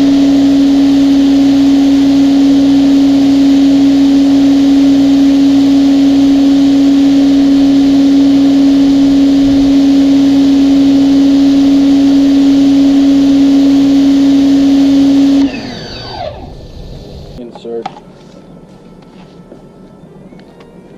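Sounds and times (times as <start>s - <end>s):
pressure washer running: 0.0s - 17.4s.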